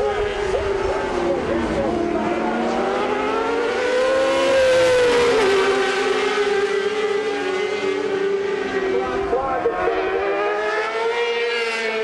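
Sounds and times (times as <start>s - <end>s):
racing motorcycle engines whining: 0.0s - 12.0s.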